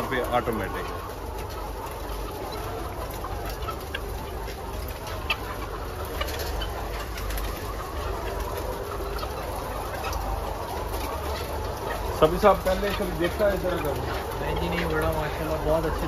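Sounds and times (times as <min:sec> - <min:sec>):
hens clucking and murmuring: 0:00.0 - 0:16.0.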